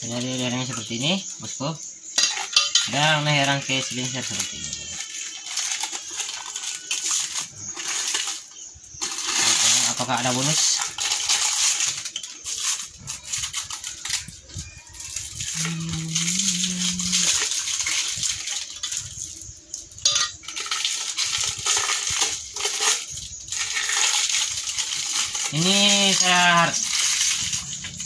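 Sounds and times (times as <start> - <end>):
plastic wrapping crinkling and tearing: 2.1 - 28.0.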